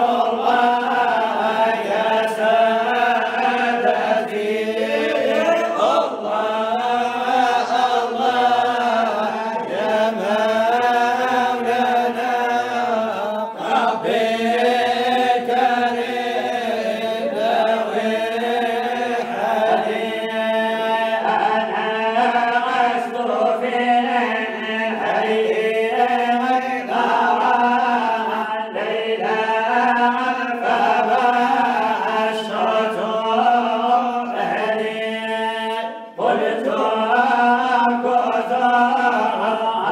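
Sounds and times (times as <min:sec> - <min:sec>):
man chanting devotional song: 0:00.0 - 0:39.9.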